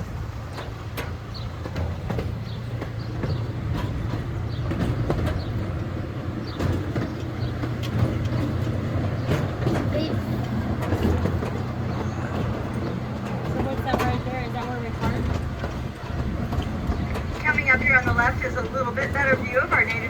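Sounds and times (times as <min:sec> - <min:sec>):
train running gear rumbling: 0:00.0 - 0:20.0
wheels clacking over rail joints: 0:00.0 - 0:20.0.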